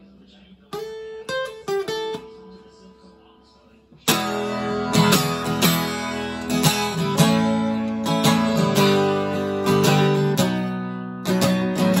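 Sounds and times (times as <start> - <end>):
acoustic guitar strumming: 0.7 - 2.9, 4.0 - 12.0.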